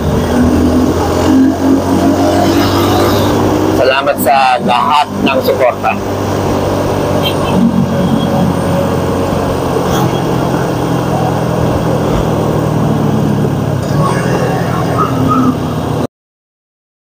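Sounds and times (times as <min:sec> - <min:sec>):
motorcycle engine running: 0:00.0 - 0:16.0
road and wind noise: 0:00.0 - 0:16.1.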